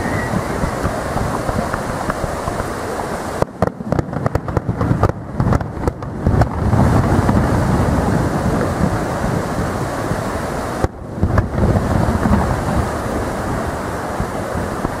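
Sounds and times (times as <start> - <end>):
distant fireworks rumbling: 0.0 - 15.0
fireworks popping and cracking: 0.0 - 15.0
wind noise on microphone: 0.0 - 15.0.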